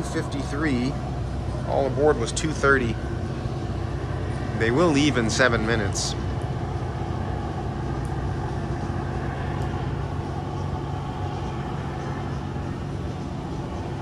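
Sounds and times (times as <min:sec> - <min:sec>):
low mechanical hum of ship machinery: 0:00.0 - 0:14.0.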